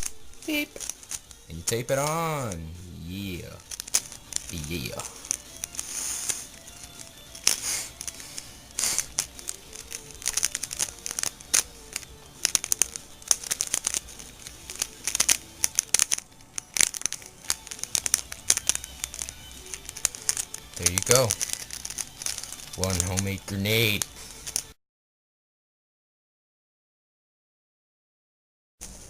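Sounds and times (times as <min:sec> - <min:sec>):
tape ripping: 0:00.0 - 0:02.7, 0:03.6 - 0:24.7
tape crinkling and crackling: 0:00.0 - 0:24.8.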